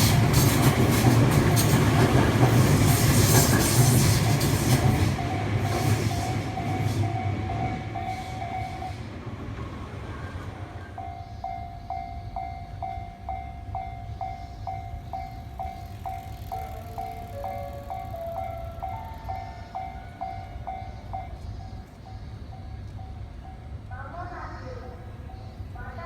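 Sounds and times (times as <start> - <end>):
train rumble and wheel noise: 0.0 - 26.0.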